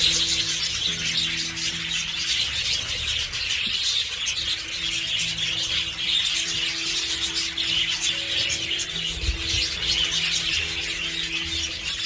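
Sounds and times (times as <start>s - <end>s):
background music low notes: 0.0s - 12.0s
budgerigars chirping: 0.0s - 12.0s.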